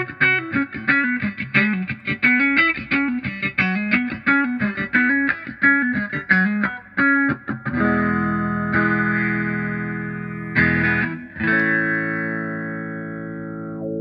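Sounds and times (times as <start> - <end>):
electric guitar riff with wah pedal: 0.0 - 14.0.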